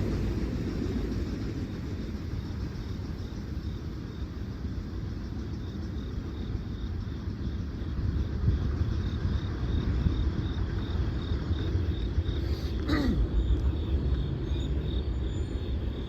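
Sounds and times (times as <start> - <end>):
train passing with low rumble: 0.0 - 16.0.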